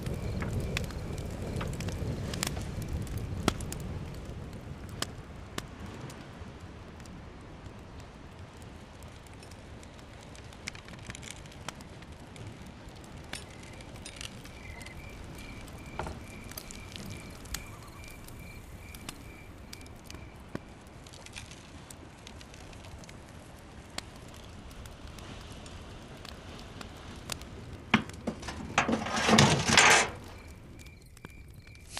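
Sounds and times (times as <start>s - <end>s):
wood fire crackling and popping: 0.0s - 31.9s.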